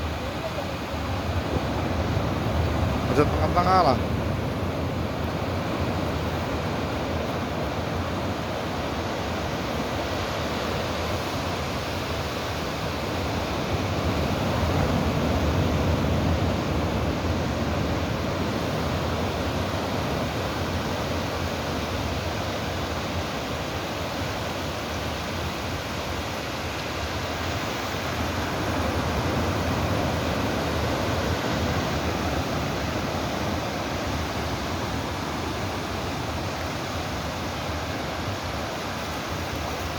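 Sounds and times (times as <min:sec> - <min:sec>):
sea waves surf: 0:00.0 - 0:39.9.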